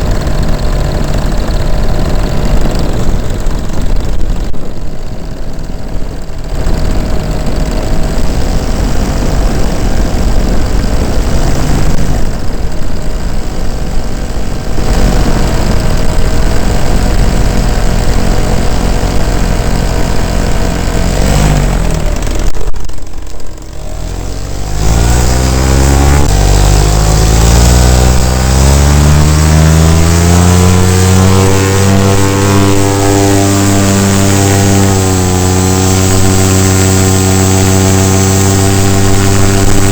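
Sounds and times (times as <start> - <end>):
paramotor engine and propeller running: 0.0 - 39.9.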